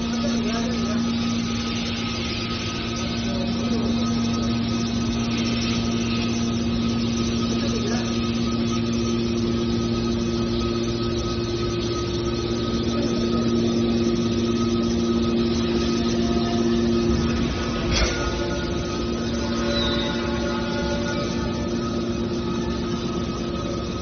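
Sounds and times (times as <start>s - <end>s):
baler machinery humming: 0.0s - 24.0s
machine whining tones: 0.0s - 24.0s.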